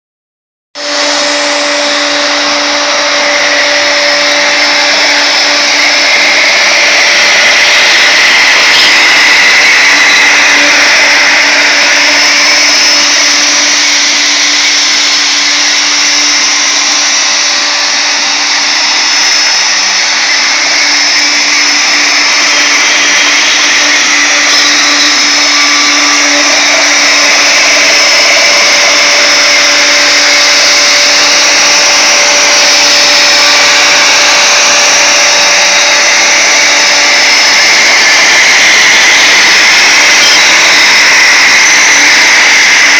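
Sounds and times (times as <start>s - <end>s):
wood router high whine: 0.8s - 42.9s.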